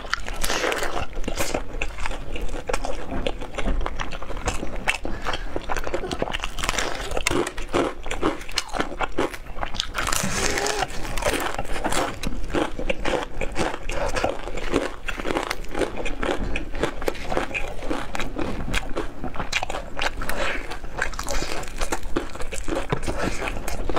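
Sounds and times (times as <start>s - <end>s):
crunchy chewing of fried chicken: 0.0s - 23.9s.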